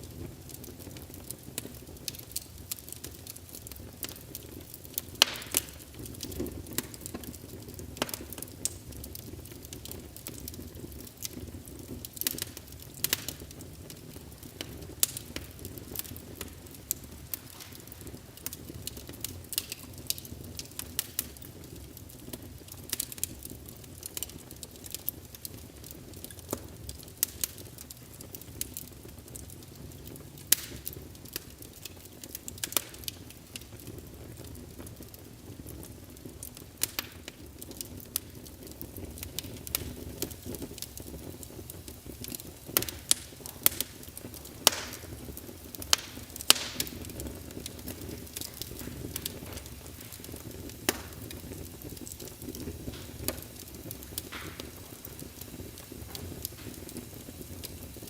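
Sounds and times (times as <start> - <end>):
burning logs crackling and popping: 0.0 - 58.0
low rumble of flames: 0.0 - 58.0.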